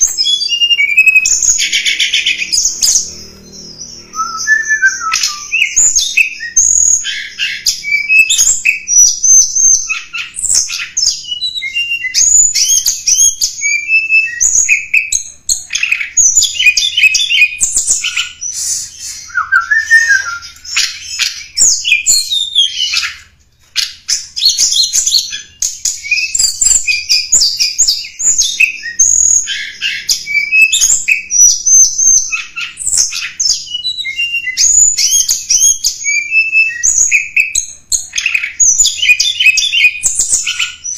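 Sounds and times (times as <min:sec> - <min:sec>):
bird chirping and twittering: 0:00.0 - 0:40.9.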